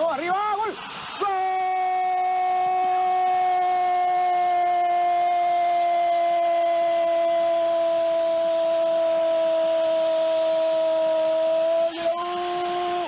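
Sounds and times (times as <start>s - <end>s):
crowd noise: 0.0s - 13.0s.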